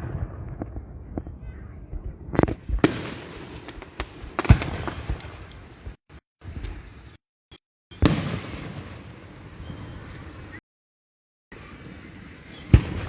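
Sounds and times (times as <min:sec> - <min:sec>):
fireworks booming: 0:00.0 - 0:06.9, 0:08.0 - 0:10.6, 0:11.6 - 0:13.0
fireworks crackling: 0:00.0 - 0:07.2, 0:08.0 - 0:10.6, 0:11.6 - 0:13.0.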